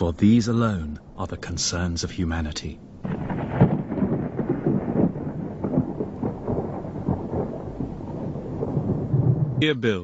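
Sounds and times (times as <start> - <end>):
low rumbling with crackles: 0.0 - 10.0.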